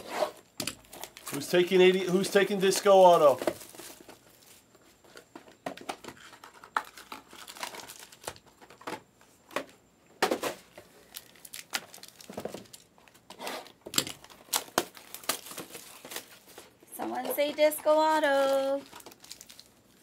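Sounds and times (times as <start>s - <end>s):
packaging crinkling and tearing: 0.6s - 5.2s, 5.8s - 8.9s, 10.8s - 16.8s, 17.6s - 20.0s.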